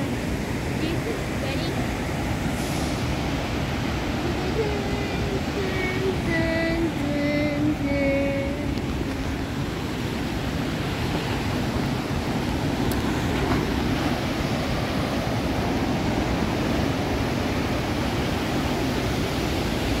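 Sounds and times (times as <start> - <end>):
waves breaking on rocks: 0.0 - 20.0
wind rumbling on microphone: 0.0 - 20.0.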